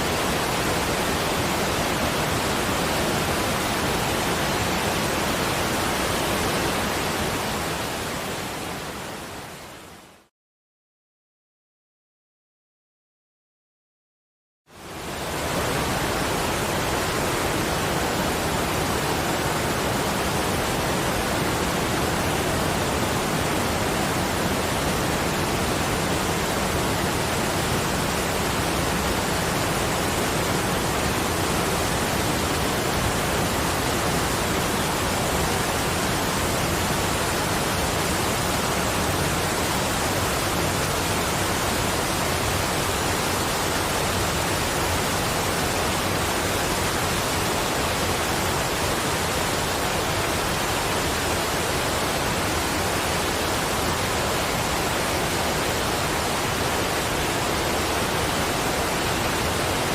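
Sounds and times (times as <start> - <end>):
rush of falling water: 0.0 - 10.3, 14.7 - 59.9.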